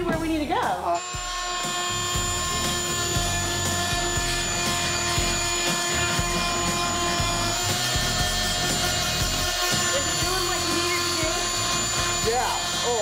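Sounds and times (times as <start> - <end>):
blade grating into wood: 1.0 - 13.0
oscillating tool whining: 1.0 - 13.0.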